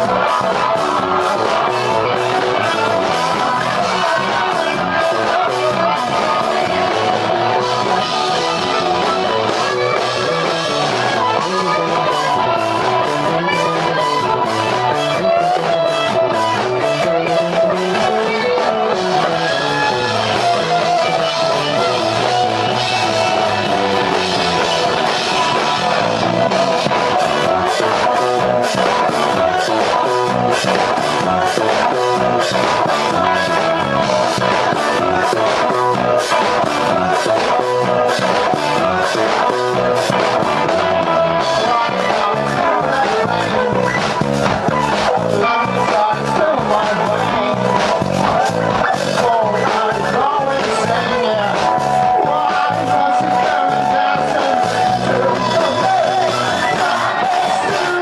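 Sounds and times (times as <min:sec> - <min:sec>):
drum kit: 0:00.0 - 0:58.0
live rock band playing: 0:00.0 - 0:58.0.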